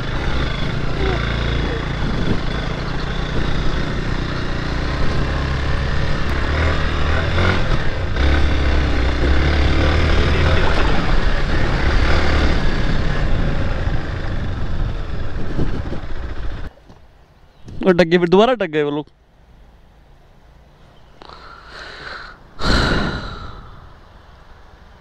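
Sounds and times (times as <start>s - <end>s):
motorcycle engine rumbling: 0.0s - 16.8s, 21.0s - 25.0s.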